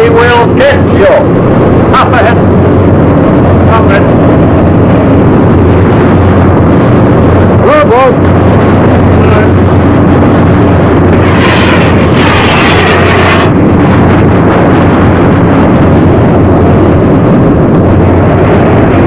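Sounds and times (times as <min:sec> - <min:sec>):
boat engine drone: 0:00.0 - 0:19.0
rushing wind: 0:00.0 - 0:19.0
water rushing: 0:00.0 - 0:19.0.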